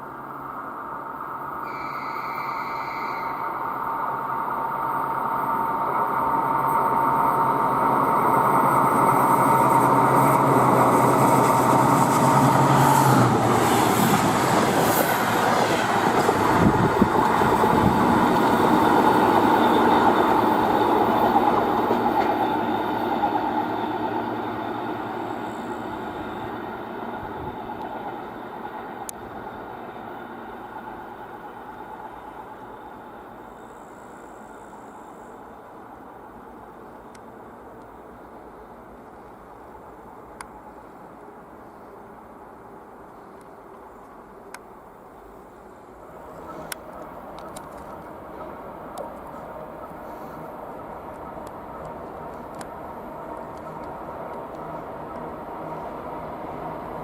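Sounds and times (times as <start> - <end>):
train engine hum: 0.0 - 57.0.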